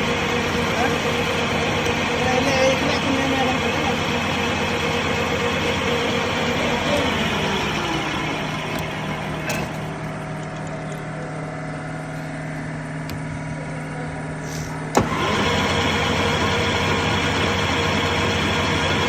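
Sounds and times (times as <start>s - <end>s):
lathe motor humming: 0.0s - 19.0s.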